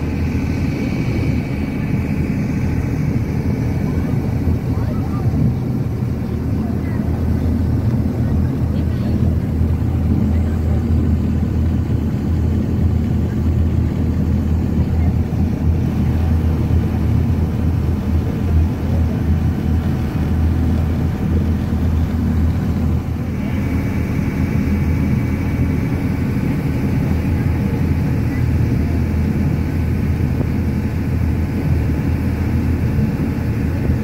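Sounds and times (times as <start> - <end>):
boat engine running: 0.0 - 34.0
water rushing along hull: 0.0 - 34.0.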